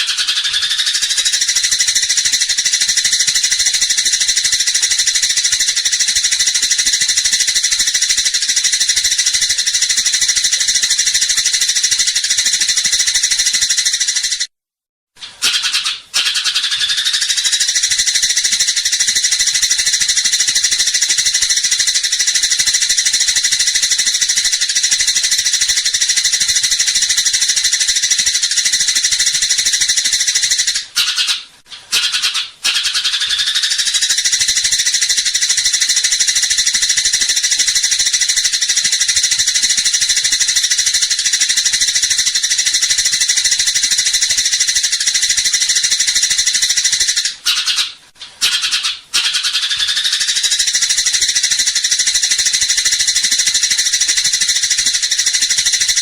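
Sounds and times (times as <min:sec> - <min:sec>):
sparrow chattering: 0:00.0 - 0:14.5, 0:15.4 - 0:56.0.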